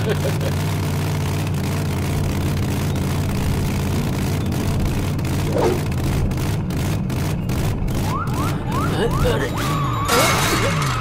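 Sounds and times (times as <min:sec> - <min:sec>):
cartoon motorcycle engine: 0:00.0 - 0:11.0.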